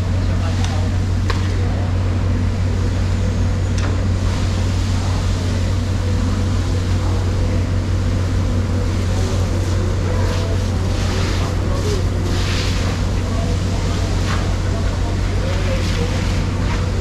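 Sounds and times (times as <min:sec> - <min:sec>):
loud low machine hum: 0:00.0 - 0:17.0
noisy background din: 0:00.0 - 0:17.0.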